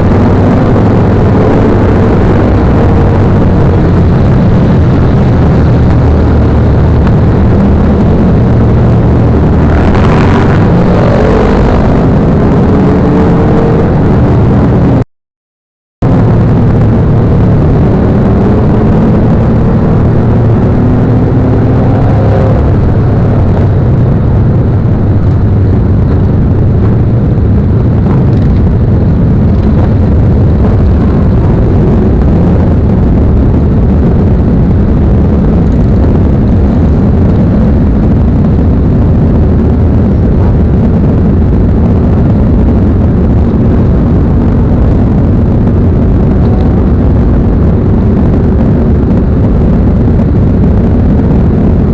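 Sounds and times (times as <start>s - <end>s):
motorcycle engine rumbling: 0.0s - 15.0s, 16.0s - 51.9s.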